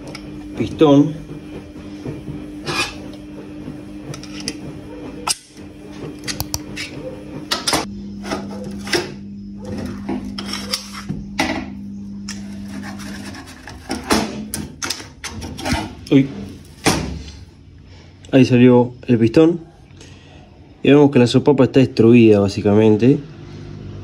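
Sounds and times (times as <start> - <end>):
steady low hum: 0.0 - 21.2.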